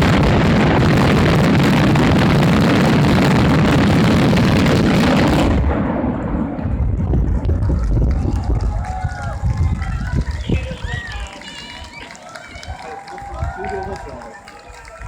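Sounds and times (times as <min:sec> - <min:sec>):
fireworks bursts and crackle: 0:00.0 - 0:15.0.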